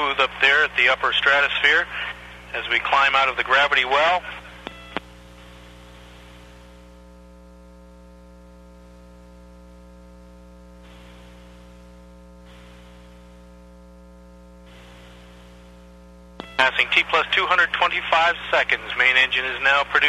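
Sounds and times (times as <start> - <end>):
radio channel hiss: 0.0 - 8.0, 10.6 - 20.0
electrical mains hum: 0.0 - 20.0.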